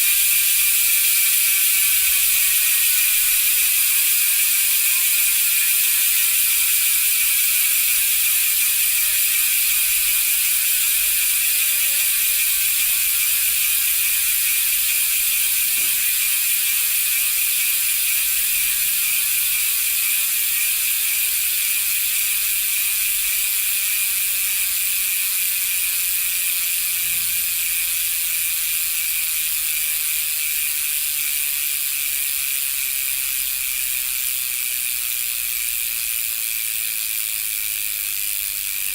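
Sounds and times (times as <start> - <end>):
bicycle freehub ratcheting: 0.0 - 38.9.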